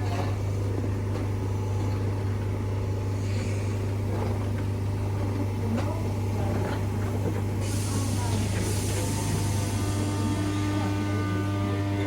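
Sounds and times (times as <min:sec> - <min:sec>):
electric train hum: 0:00.0 - 0:12.0.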